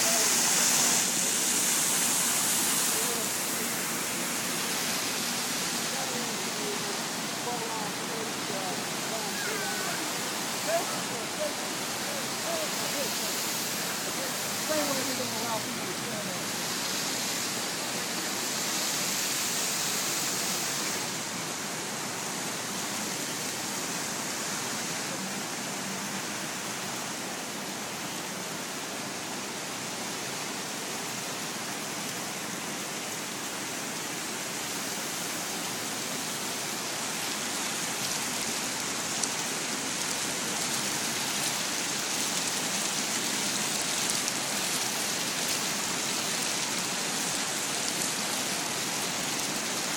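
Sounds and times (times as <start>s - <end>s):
fountain jets splashing into pool: 0.0s - 49.9s.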